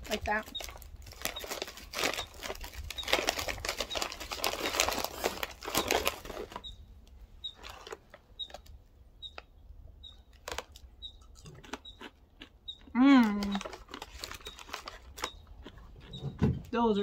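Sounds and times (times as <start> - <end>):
snack bag crinkling: 0.0 - 6.6, 7.5 - 9.5, 10.3 - 15.9.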